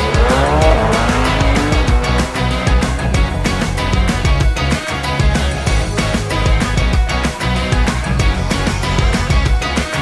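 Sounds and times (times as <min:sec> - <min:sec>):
upbeat rock music with guitar: 0:00.0 - 0:10.0.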